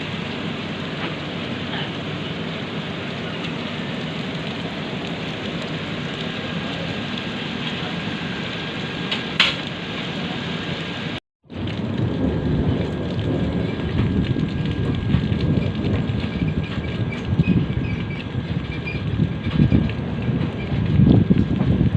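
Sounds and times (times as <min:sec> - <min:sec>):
passenger train rumbling: 0:00.0 - 0:21.9.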